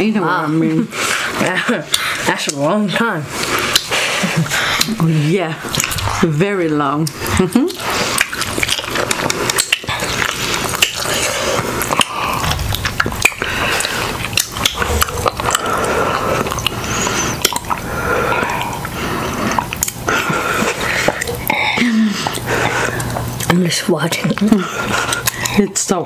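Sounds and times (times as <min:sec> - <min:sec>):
wet chewing and mouth sounds: 0:03.4 - 0:06.3, 0:06.9 - 0:25.8.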